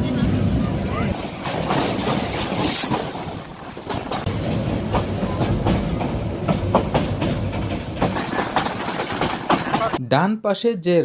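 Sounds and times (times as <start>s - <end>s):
train low rumble: 0.0s - 10.0s
train wheels clacking over rail joints: 1.1s - 10.0s.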